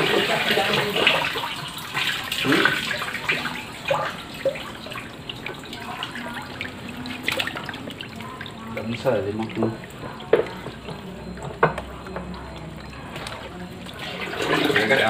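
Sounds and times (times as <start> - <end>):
water splashing in a basin: 0.0 - 15.0.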